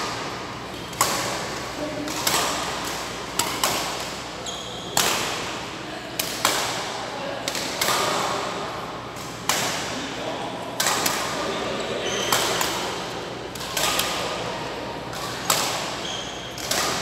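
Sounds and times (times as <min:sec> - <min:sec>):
rackets striking shuttlecock: 0:00.0 - 0:14.5, 0:15.1 - 0:17.0.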